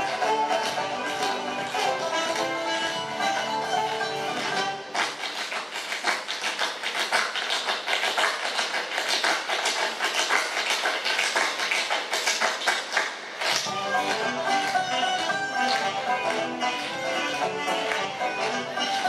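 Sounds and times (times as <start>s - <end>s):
tap shoes on stage floor: 0.0s - 19.0s
traditional dance music: 0.0s - 19.0s.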